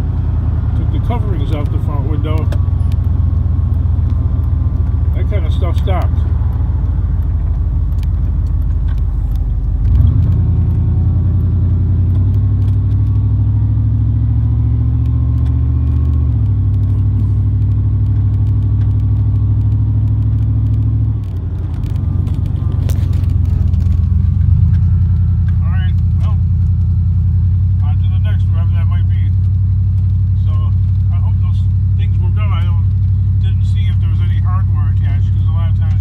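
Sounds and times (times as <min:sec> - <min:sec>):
vehicle engine while driving: 0:00.0 - 0:36.0.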